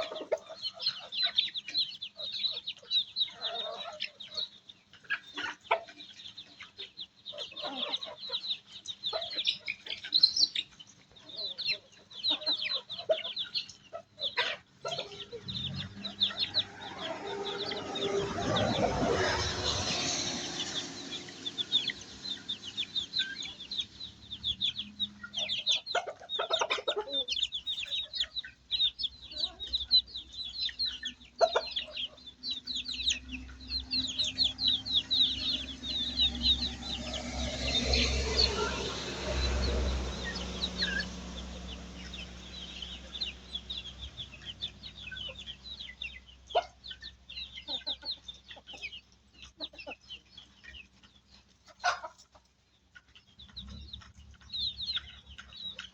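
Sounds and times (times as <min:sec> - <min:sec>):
chicks peeping: 0:00.0 - 0:55.9
hen clucking: 0:00.0 - 0:55.9.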